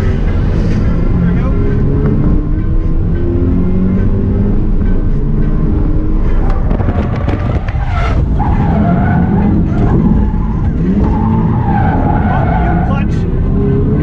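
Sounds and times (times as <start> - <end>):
car engine revving: 0.0 - 14.0
tires squealing: 0.0 - 14.0.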